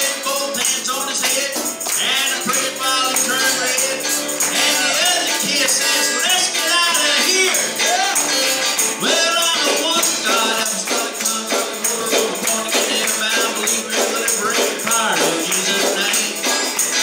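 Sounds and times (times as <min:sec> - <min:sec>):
gospel band with electric guitar: 0:00.0 - 0:17.0
tambourine shaken: 0:00.0 - 0:17.0.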